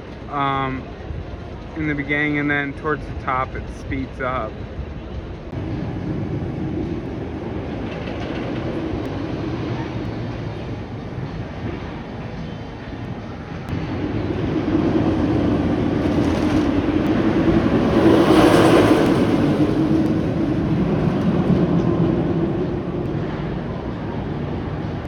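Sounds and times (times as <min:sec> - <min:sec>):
roller coaster rumbling on steel track: 0:02.9 - 0:12.8, 0:13.5 - 0:25.0.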